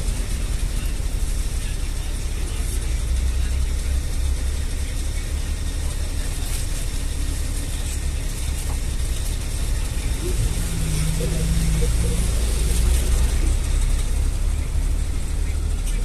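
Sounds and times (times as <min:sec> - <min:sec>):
bus engine and tyres rumbling: 0:00.0 - 0:16.0.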